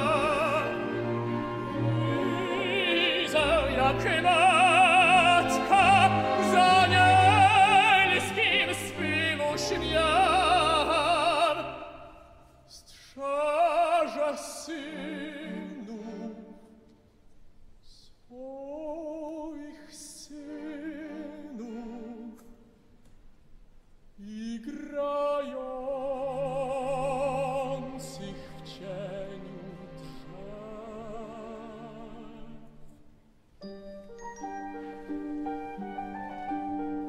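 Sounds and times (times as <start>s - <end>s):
operatic tenor singing: 0.0s - 16.7s, 18.3s - 22.6s, 24.2s - 33.0s
symphony orchestra: 0.0s - 17.4s, 18.3s - 22.8s, 24.2s - 37.0s.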